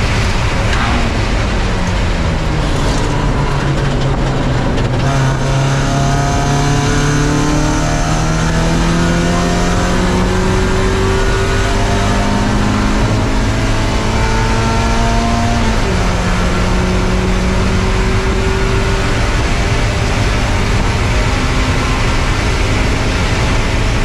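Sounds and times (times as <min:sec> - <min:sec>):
car engine running hard: 0:00.0 - 0:24.0
road and wind noise: 0:00.0 - 0:24.0.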